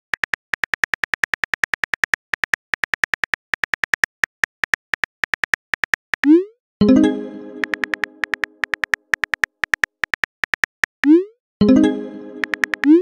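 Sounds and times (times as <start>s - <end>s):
keyboard typing clicks: 0.0s - 11.2s, 12.4s - 13.0s.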